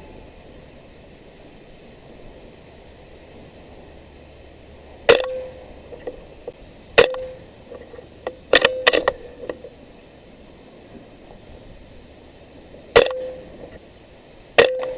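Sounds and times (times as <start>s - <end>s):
faint ticks: 0.0s - 14.9s.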